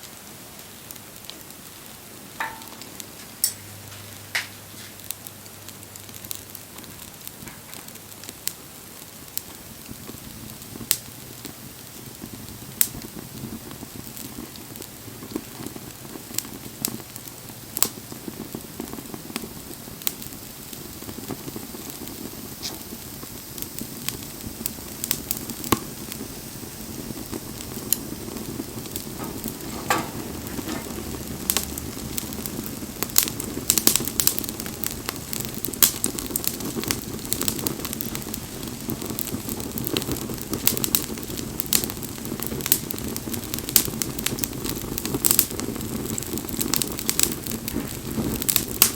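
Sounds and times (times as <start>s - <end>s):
fire pops and snaps: 0.6s - 48.9s
burning flame rush: 9.3s - 48.9s.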